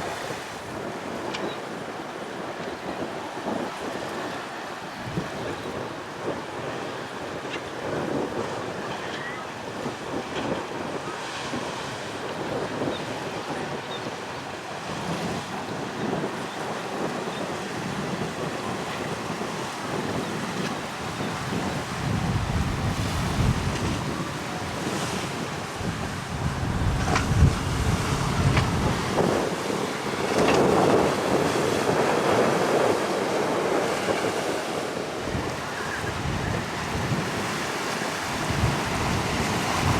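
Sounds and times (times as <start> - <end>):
waves and choppy water: 0.0 - 39.9
wind buffeting microphone: 0.0 - 39.9.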